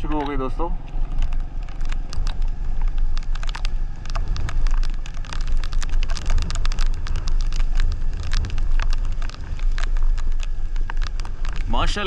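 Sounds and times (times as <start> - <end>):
motorcycle engine rumble: 0.0 - 12.0
raindrops clicking on microphone: 0.0 - 12.0.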